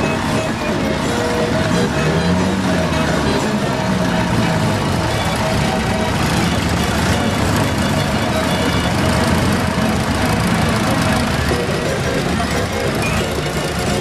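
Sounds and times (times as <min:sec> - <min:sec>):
tractor engines running: 0:00.0 - 0:14.0.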